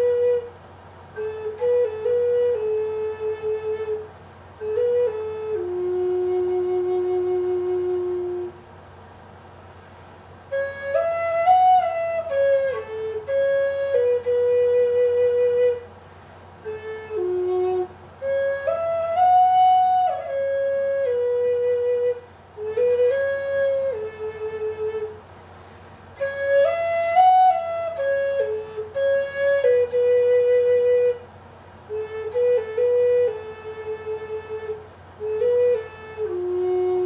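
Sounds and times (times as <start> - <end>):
flute playing slow melody: 0.0 - 8.6, 9.8 - 37.0.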